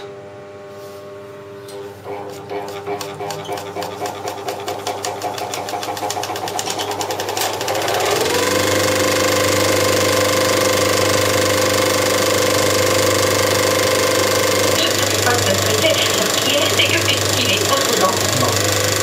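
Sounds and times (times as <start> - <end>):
steady hum: 0.0 - 19.0
projector mechanical clatter: 1.6 - 19.0.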